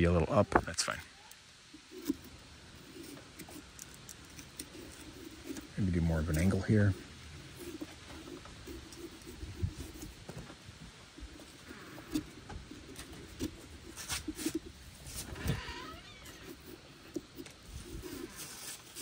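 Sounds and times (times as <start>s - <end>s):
knife scraping pumpkin: 1.7s - 19.0s.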